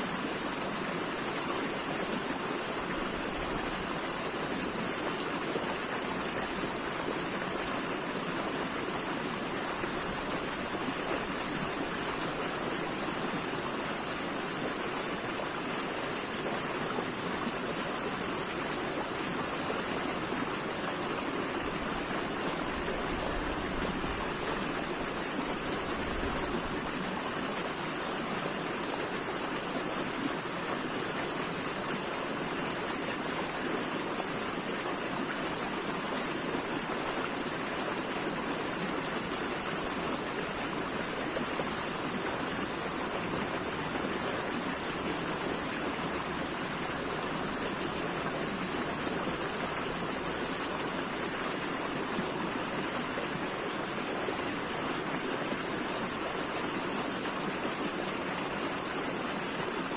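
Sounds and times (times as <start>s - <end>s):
water flowing: 0.0s - 59.9s.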